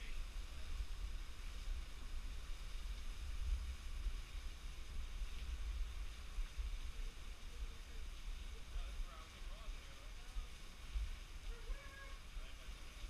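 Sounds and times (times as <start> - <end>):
waterfall hiss: 0.0 - 13.0.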